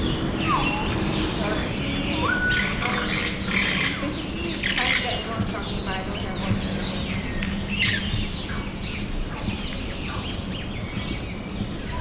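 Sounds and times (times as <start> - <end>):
birds chirping: 0.0 - 12.0
steady background noise: 0.0 - 12.0.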